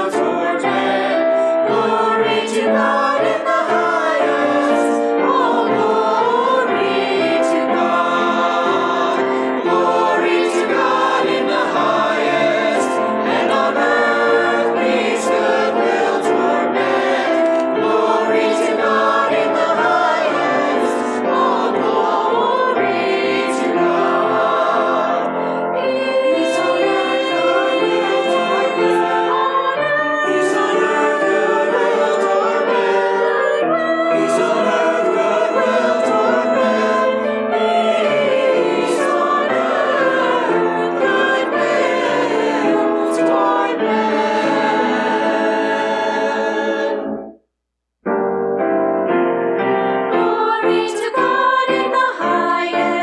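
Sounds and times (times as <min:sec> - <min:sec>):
church choir singing: 0:00.0 - 0:47.4, 0:49.6 - 0:53.0.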